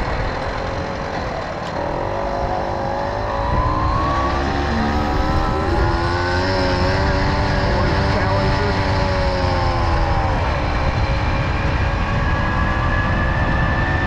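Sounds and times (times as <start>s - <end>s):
low rushing rumble: 0.0s - 14.0s
moped engine speeding up: 0.0s - 14.0s.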